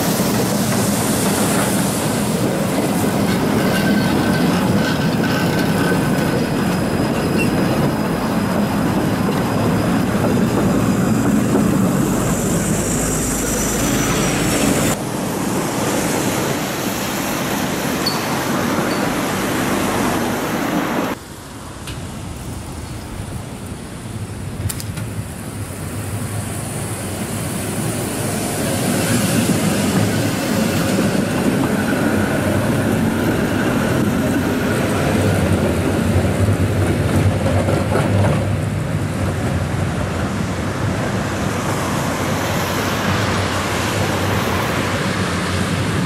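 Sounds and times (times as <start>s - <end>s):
tram approaching: 0.0s - 46.0s
tram wheels on rails: 0.0s - 46.0s.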